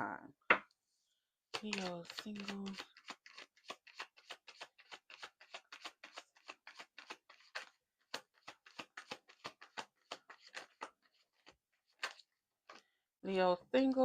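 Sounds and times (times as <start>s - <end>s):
cards being shuffled: 1.5s - 12.8s.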